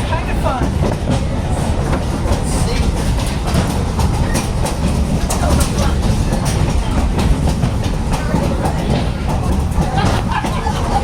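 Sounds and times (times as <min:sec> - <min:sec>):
train rumbling on track: 0:00.0 - 0:11.0
wheels clicking on rails: 0:00.0 - 0:11.0.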